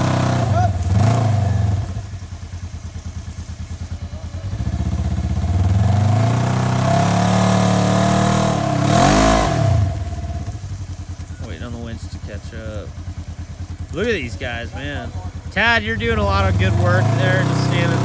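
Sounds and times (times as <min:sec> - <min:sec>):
utility vehicle engine revving: 0:00.0 - 0:18.0.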